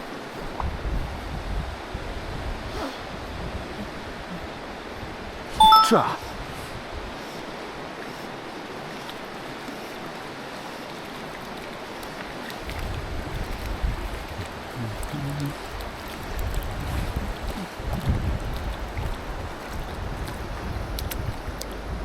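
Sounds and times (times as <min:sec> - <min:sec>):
stream rushing: 0:03.0 - 0:22.0.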